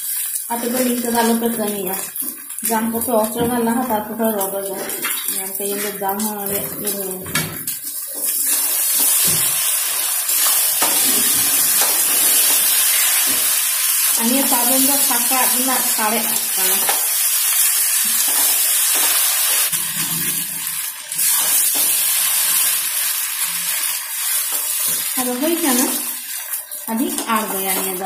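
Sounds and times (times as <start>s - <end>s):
rice sizzling: 0.0s - 28.0s.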